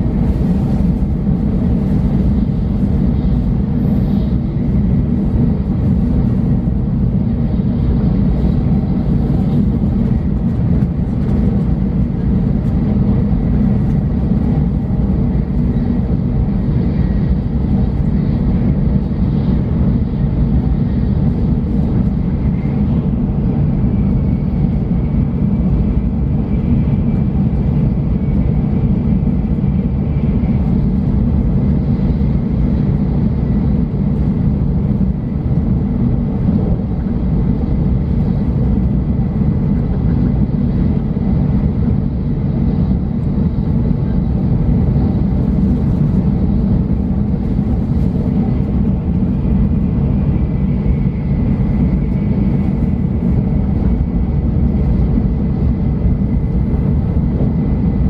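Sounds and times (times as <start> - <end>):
train running low rumble: 0.0 - 58.0.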